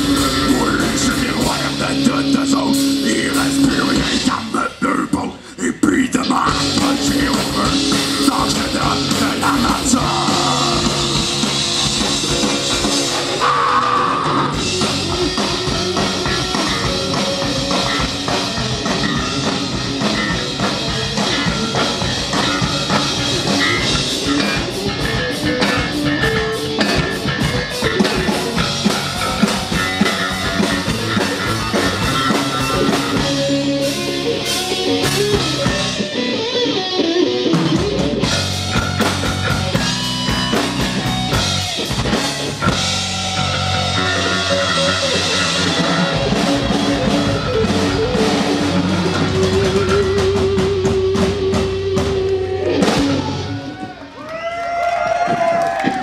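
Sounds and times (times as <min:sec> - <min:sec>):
metal band playing live: 0:00.0 - 0:56.0.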